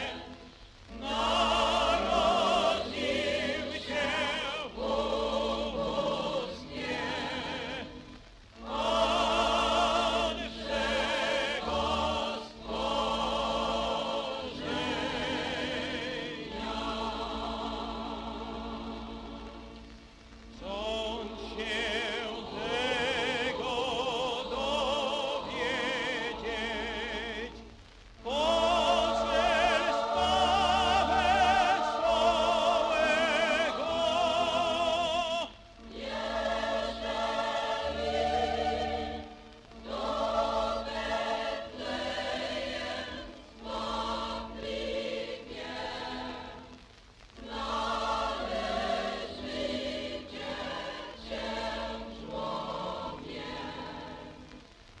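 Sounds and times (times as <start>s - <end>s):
mixed choir singing a carol: 0.0s - 54.8s.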